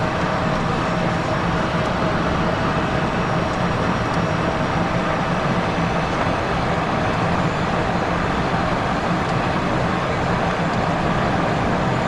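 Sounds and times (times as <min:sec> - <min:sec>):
jet cabin engine rush: 0:00.0 - 0:12.0.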